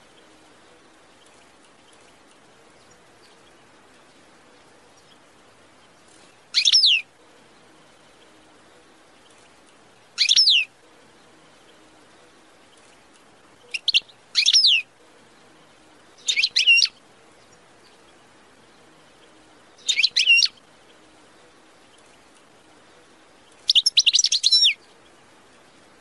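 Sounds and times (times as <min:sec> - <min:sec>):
songbird chirping: 0:00.0 - 0:26.0.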